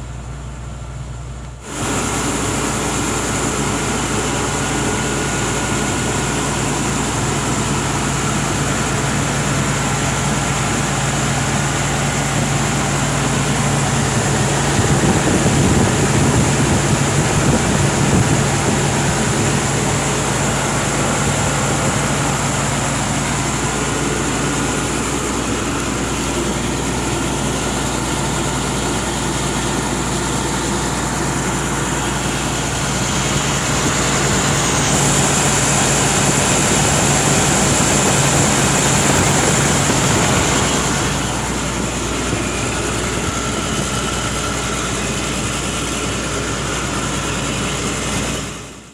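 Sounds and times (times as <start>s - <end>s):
diesel engine running: 0.0s - 48.9s
high whine: 1.6s - 46.5s.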